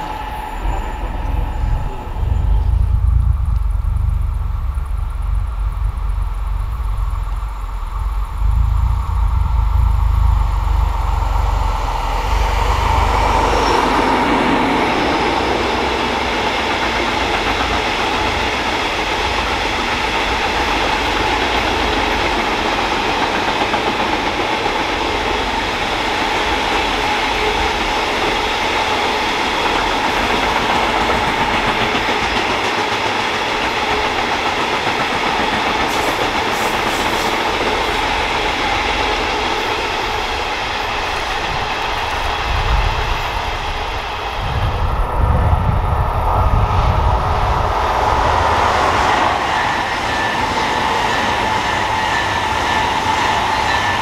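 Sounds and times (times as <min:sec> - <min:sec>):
freight train wheels rolling on rails: 0:00.0 - 0:54.0.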